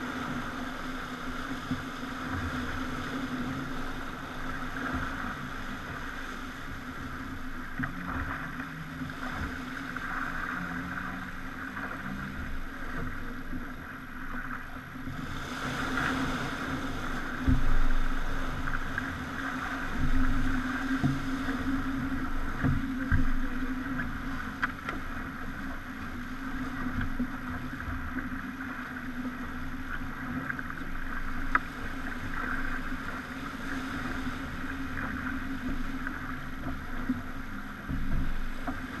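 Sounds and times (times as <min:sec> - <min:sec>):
water rushing along hull: 0:00.0 - 0:39.0.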